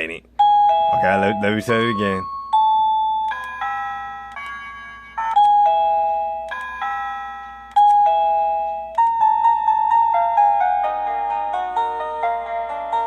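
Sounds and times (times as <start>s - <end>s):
electronic doorbell chime tunes: 0.4s - 13.0s.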